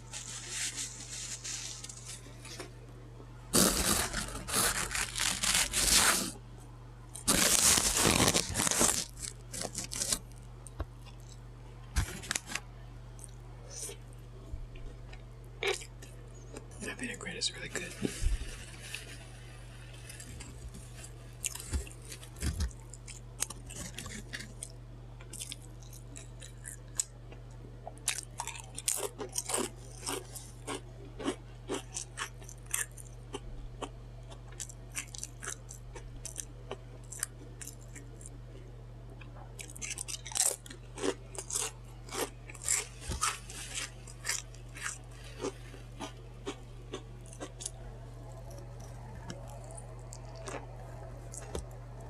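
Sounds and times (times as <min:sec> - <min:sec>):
chewing sandwich crunching: 0:03.6 - 0:06.4, 0:07.1 - 0:14.2, 0:14.8 - 0:16.9, 0:17.8 - 0:52.0.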